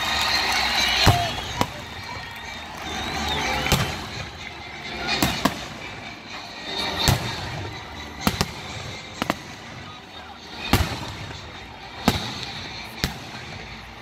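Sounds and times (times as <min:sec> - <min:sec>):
fireworks bursting with bangs: 0:00.0 - 0:14.0.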